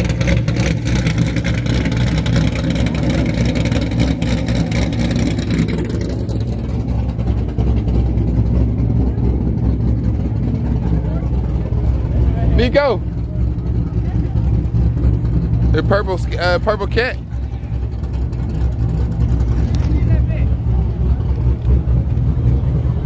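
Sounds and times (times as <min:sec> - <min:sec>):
car engine idling lumpily: 0:00.0 - 0:23.0.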